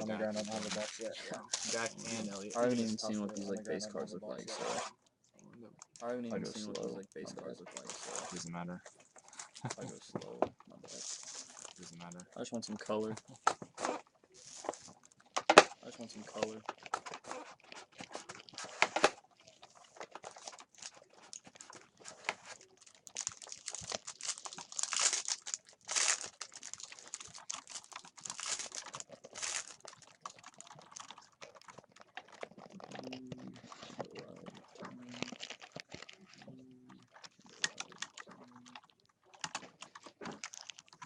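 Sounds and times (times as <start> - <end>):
foil wrappers crinkling: 0.0 - 4.0, 5.8 - 41.0.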